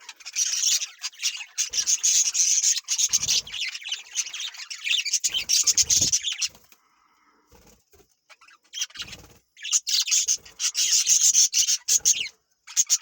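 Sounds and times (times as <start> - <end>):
parrots squawking: 0.0 - 6.6, 8.3 - 13.0.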